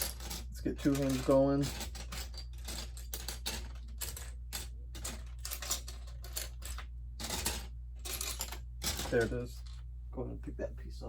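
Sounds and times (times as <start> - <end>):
plastic bricks clicking and clattering: 0.0 - 9.8.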